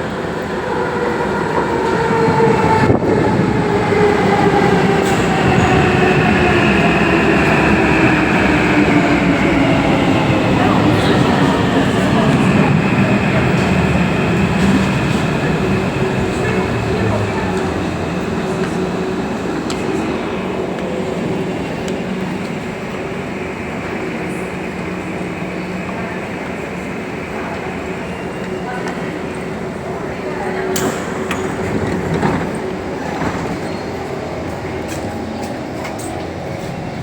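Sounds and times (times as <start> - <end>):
train car running noise: 0.0 - 37.0.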